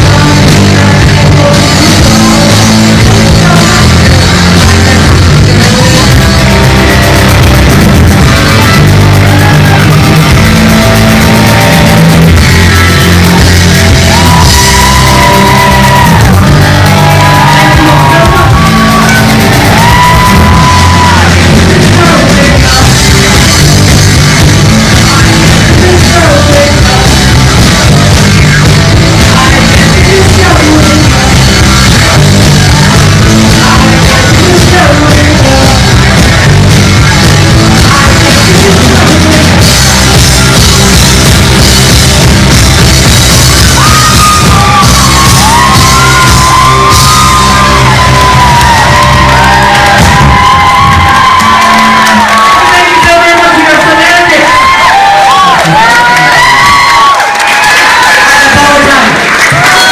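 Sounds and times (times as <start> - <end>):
shouted singing: 0.0 - 40.7, 43.3 - 59.9
rock band playing: 0.0 - 59.9.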